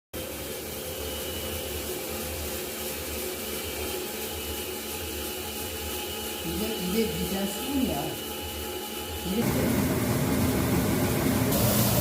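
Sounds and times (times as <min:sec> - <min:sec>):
machine motor hum and whir: 0:00.3 - 0:12.0.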